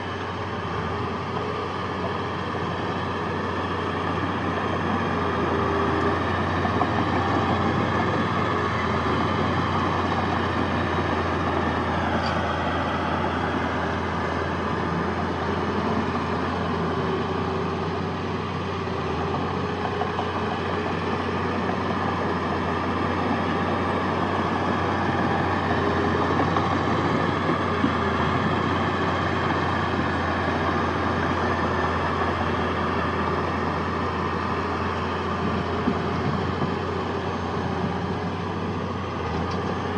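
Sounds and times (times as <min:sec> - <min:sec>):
diesel machinery engine drone: 0:00.0 - 0:39.9.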